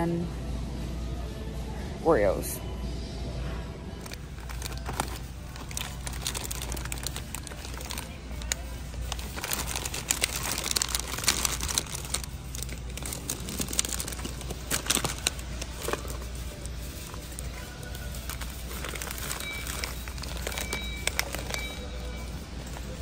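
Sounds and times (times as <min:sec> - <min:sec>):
plastic wrapper crinkling: 0:04.0 - 0:23.0.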